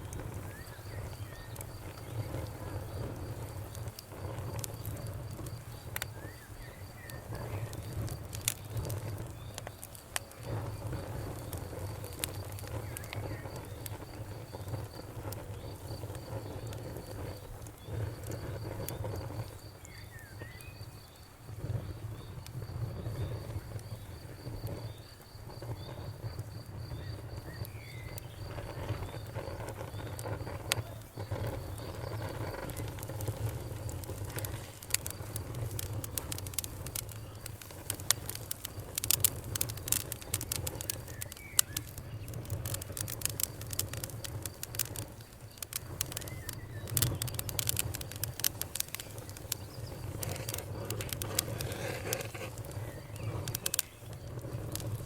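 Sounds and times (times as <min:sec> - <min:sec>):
campfire crackling and popping: 0:00.0 - 0:55.0
insect chirping: 0:00.2 - 0:55.0.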